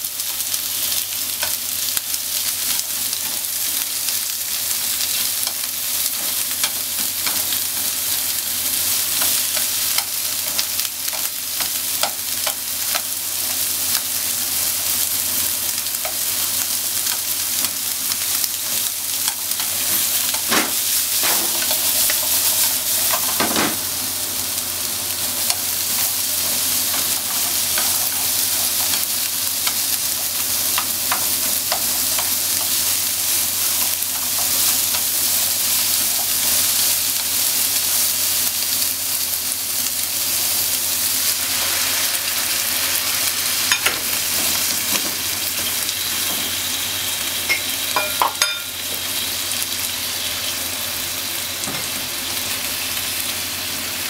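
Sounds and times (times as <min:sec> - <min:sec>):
onions sizzling in a frying pan: 0:00.0 - 0:54.0.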